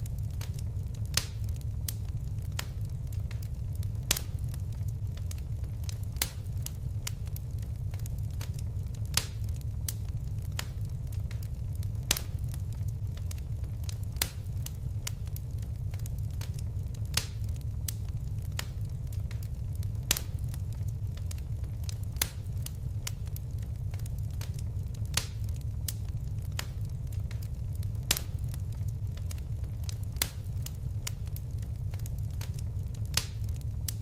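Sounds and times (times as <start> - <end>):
fireplace fire crackling and popping: 0.0 - 34.0.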